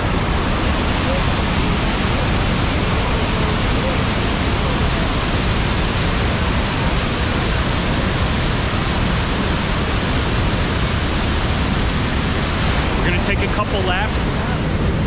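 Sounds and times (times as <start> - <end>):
rush of falling water: 0.0 - 15.0.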